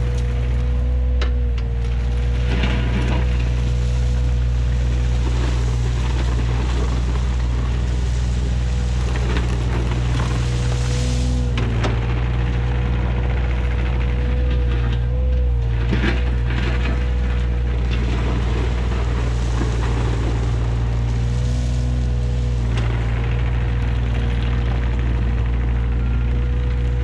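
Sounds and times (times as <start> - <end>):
diesel engine running: 0.0 - 27.0
steady whine: 0.0 - 27.0.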